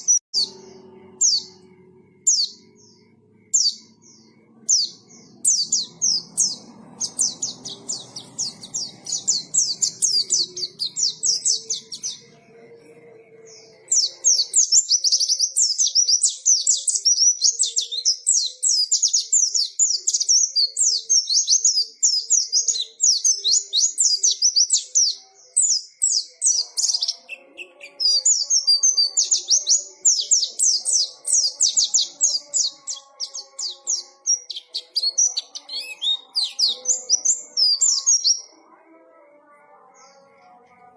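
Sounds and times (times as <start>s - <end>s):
bird chirping and trilling: 0.0s - 38.6s.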